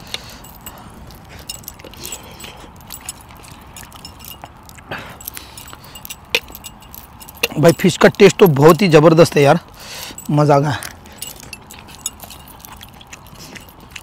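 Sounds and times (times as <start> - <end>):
metal bracelets clinking: 0.0 - 14.0.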